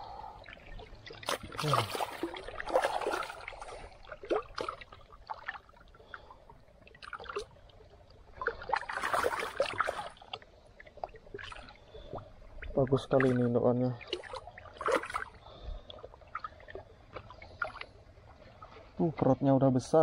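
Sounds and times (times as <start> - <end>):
fish thrashing in water: 0.1 - 18.3.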